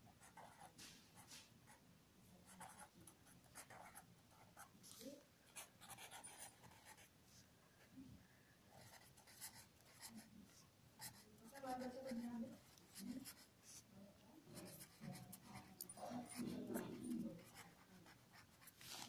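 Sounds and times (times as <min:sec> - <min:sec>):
marker pen scratching on paper: 0:00.2 - 0:01.8, 0:02.4 - 0:07.1, 0:08.7 - 0:13.9, 0:14.5 - 0:19.0.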